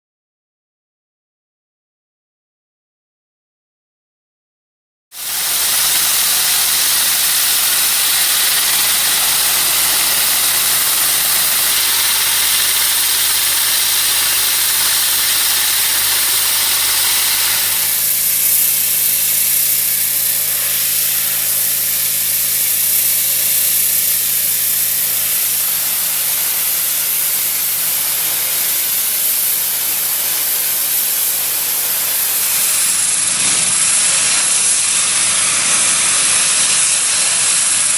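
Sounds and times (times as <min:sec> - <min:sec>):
high-pressure water jet hissing: 0:05.2 - 0:37.9
pump humming: 0:05.2 - 0:37.9.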